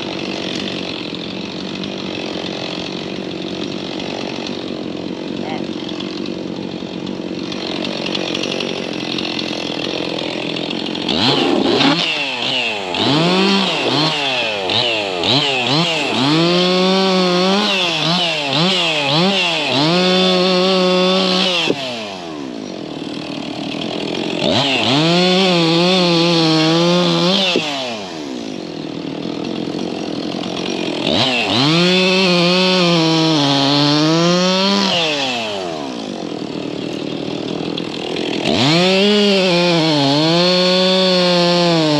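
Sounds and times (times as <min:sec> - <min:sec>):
chainsaw revving and cutting: 0:00.0 - 0:41.9.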